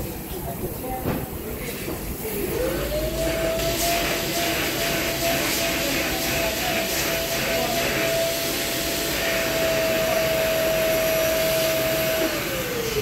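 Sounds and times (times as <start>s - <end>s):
electric motor whine and hiss: 2.4s - 13.0s.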